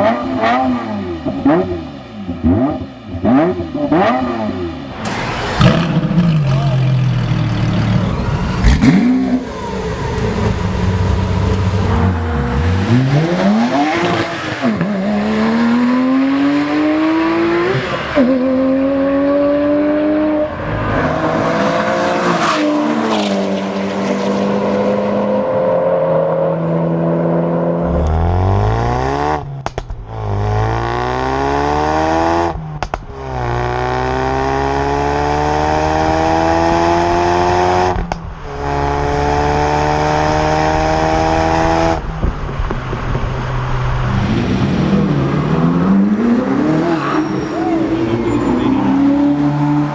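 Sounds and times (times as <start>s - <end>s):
car engine at full throttle: 0.0s - 49.9s.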